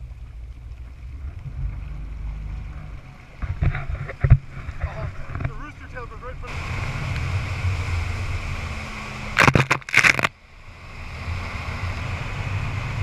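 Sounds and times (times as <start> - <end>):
motorboat engine rumble: 0.0 - 13.0
rushing wake water: 0.0 - 13.0.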